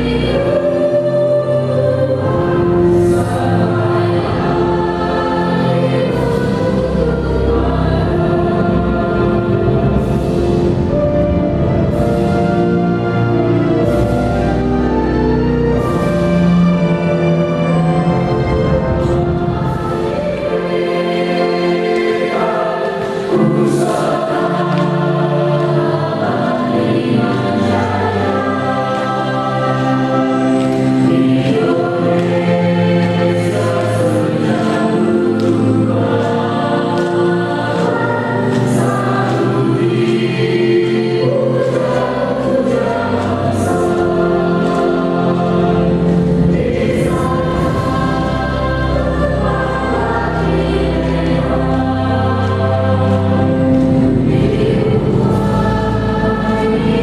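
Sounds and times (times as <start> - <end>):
choir singing: 0.0 - 57.0
instrumental accompaniment: 0.0 - 57.0.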